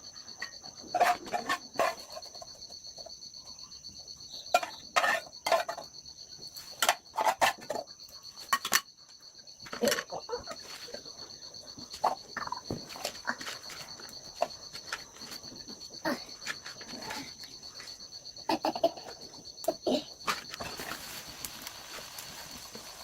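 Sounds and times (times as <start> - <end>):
pulsing insect trill: 0.0 - 23.0.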